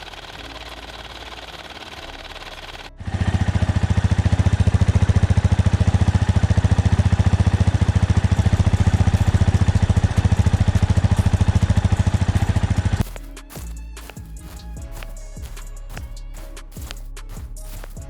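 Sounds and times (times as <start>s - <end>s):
engine chugging steadily: 0.0s - 18.0s.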